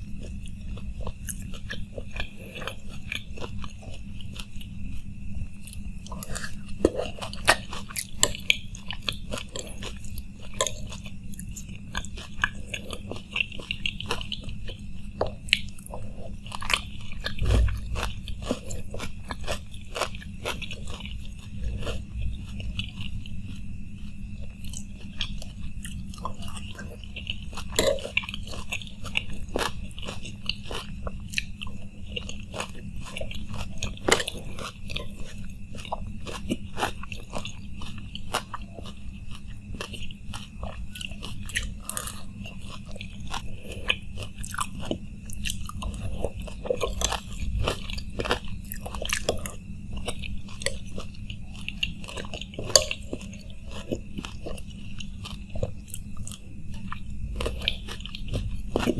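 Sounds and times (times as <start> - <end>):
person chewing and crunching: 0.0 - 58.9
steady low hum: 0.0 - 58.9.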